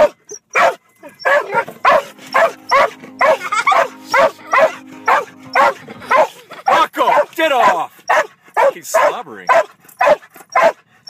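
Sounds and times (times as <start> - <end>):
dog barking frantically: 0.0 - 10.8.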